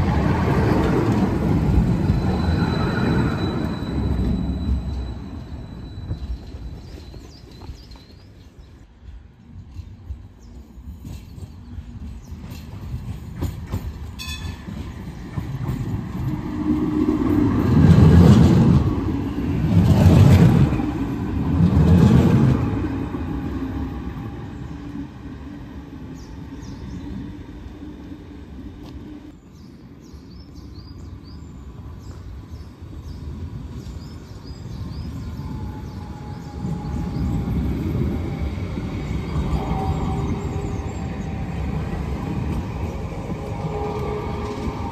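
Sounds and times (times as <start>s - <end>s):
tram rumbling: 0.0s - 44.9s.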